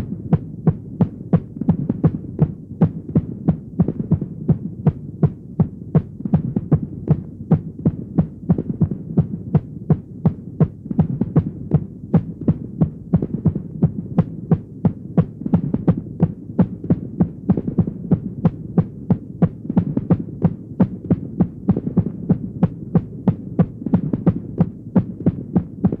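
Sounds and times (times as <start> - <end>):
irregular heartbeat: 0.0 - 26.0
steady low hum: 0.0 - 26.0.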